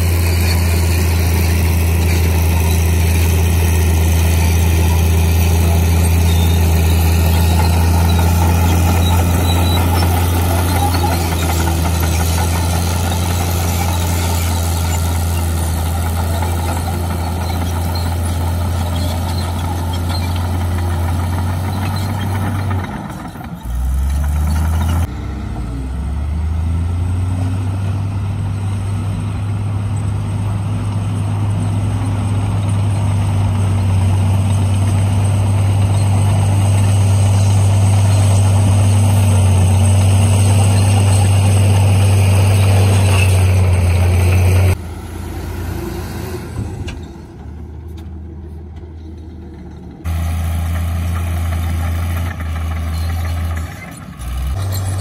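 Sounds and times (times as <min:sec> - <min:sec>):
diesel engines droning: 0:00.0 - 0:55.0
dump truck unloading dirt: 0:00.0 - 0:55.0.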